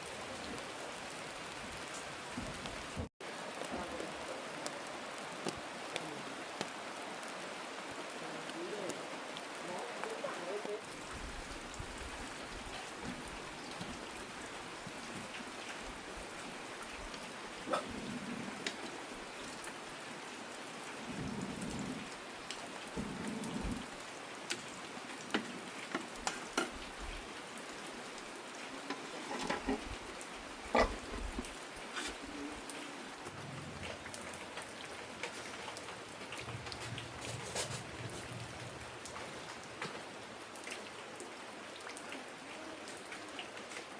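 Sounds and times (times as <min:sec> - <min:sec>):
heavy rain: 0:00.0 - 0:43.9
raindrops tapping a surface: 0:00.0 - 0:43.9.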